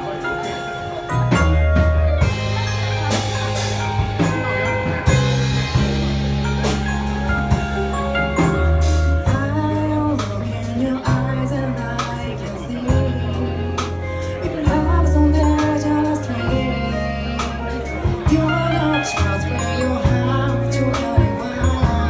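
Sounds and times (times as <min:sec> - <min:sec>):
drums and cymbal hits: 0:00.0 - 0:16.7, 0:17.4 - 0:22.0
bass notes: 0:00.0 - 0:22.0
live band playing: 0:00.0 - 0:22.0.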